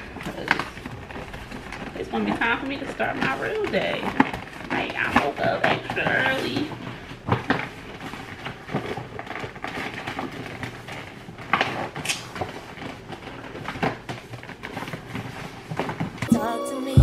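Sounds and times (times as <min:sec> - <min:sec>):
shoe packaging rustling: 0:00.0 - 0:17.0.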